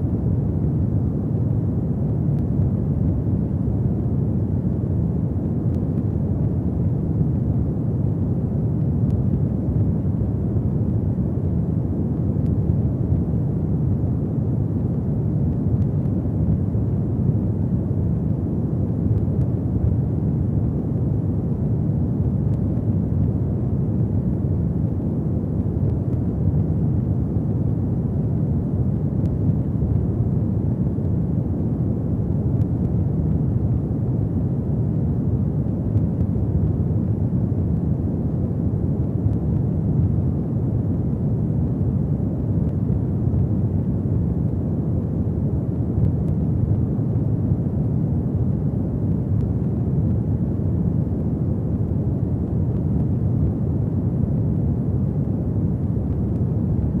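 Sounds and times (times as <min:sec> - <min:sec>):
faint fire crackles: 0:00.0 - 0:57.0.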